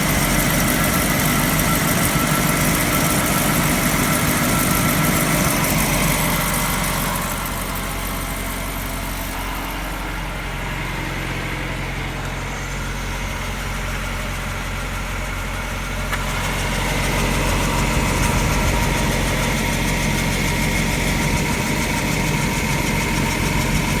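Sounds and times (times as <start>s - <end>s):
car mechanical drone: 0.0s - 24.0s.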